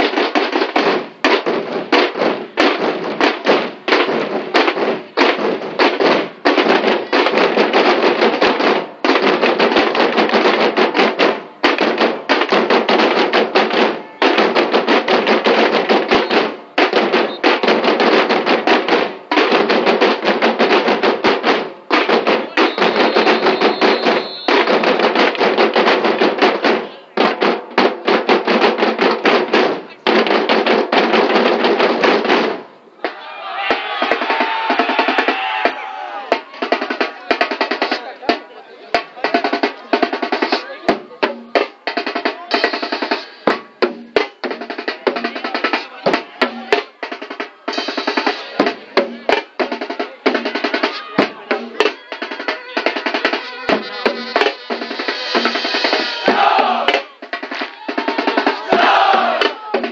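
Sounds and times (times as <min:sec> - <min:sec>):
marching drums playing: 0:00.0 - 0:59.9.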